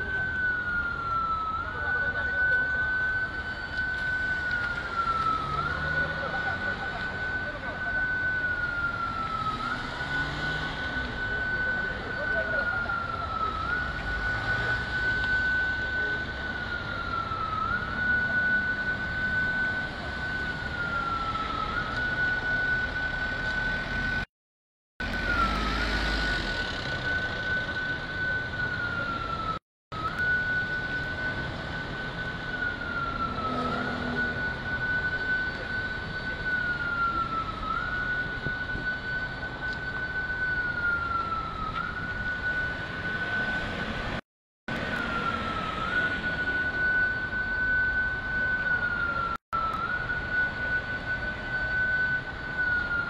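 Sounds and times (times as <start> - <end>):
emergency vehicle siren: 0.0 - 24.3, 25.0 - 53.0
vehicles driving past: 0.0 - 24.3, 25.0 - 44.2, 44.8 - 53.0.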